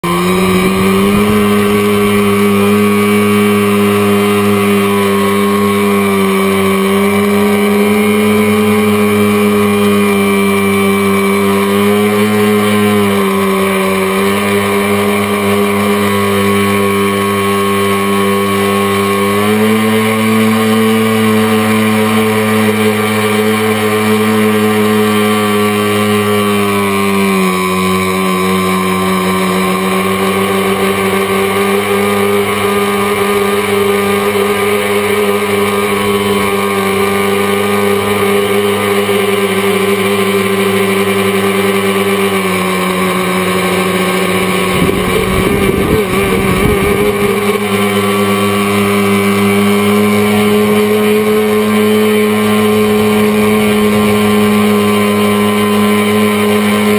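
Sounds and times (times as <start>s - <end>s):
drone motors whining: 0.0s - 56.9s.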